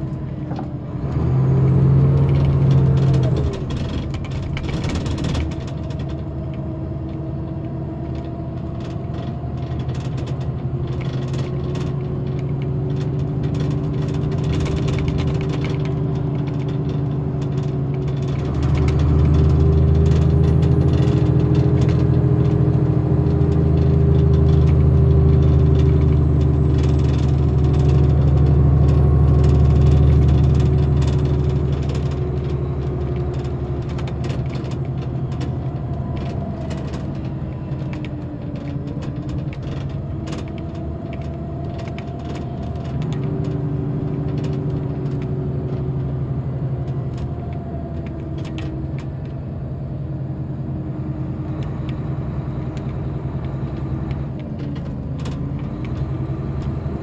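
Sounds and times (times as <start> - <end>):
coach engine and road drone: 0.0 - 57.0.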